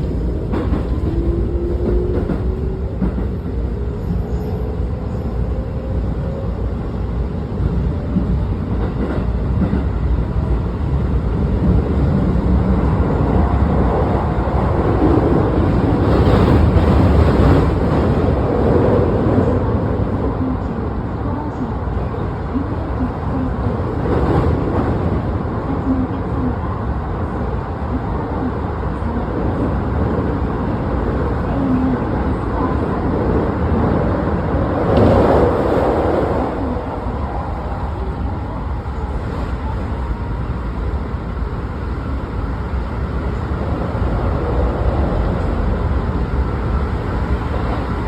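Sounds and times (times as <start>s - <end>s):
electric train rumble: 0.0s - 48.0s.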